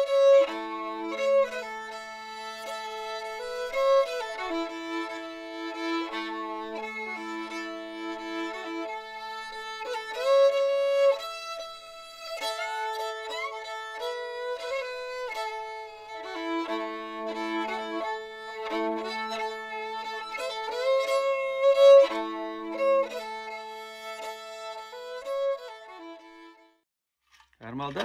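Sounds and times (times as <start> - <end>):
fiddle melody: 0.0 - 26.8.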